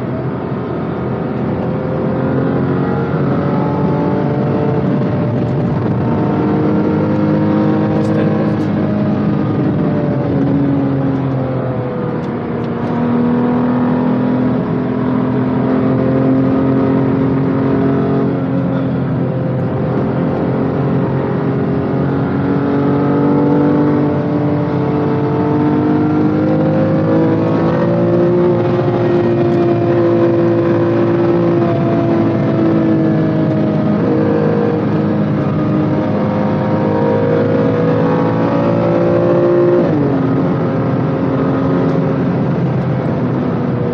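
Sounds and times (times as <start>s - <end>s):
car engine under load: 0.0s - 43.9s.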